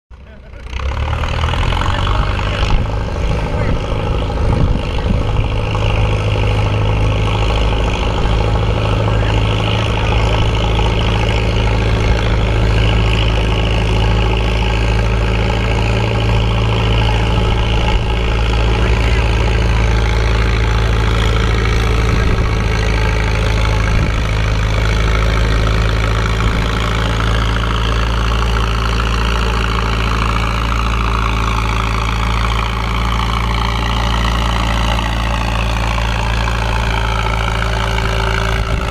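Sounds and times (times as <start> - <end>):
tractor engine idling: 0.1 - 38.9.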